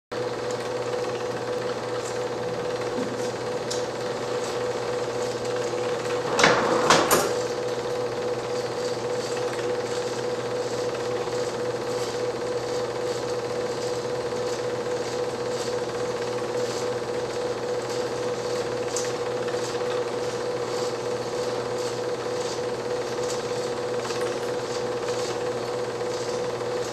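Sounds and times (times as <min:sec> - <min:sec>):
film projector running: 0:00.2 - 0:26.9.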